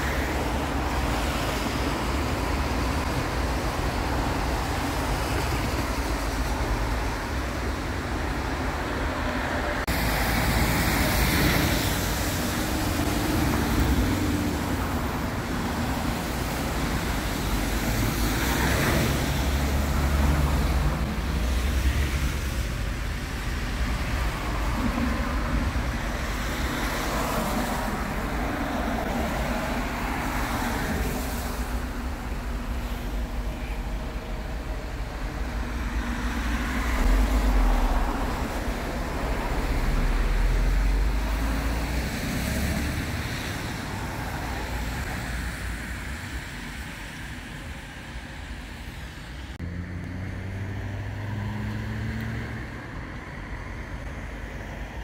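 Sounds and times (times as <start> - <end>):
low rumble of traffic: 0.0 - 55.0
vehicles passing: 0.0 - 55.0.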